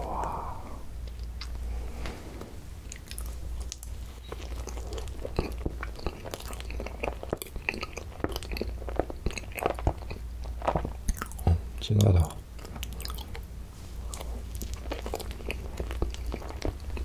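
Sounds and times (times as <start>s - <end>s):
person chewing bread: 1.0s - 1.8s, 2.8s - 17.0s.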